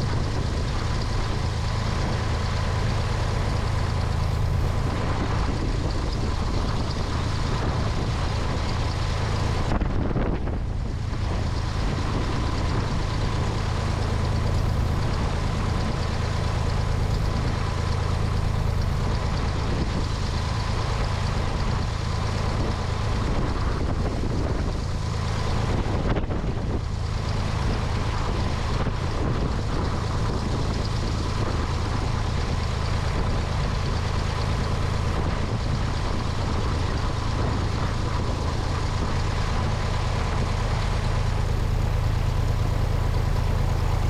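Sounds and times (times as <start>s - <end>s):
airplane engine and propeller: 0.0s - 44.0s.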